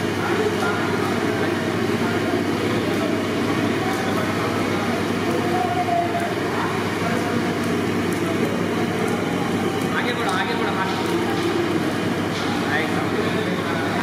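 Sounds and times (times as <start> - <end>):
chicken deep-frying in oil: 0.0 - 14.0.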